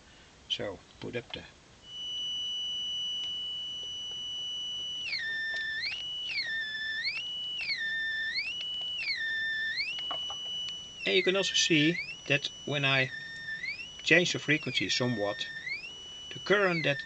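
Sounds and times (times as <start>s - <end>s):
high beep gliding in pitch: 1.9s - 17.0s.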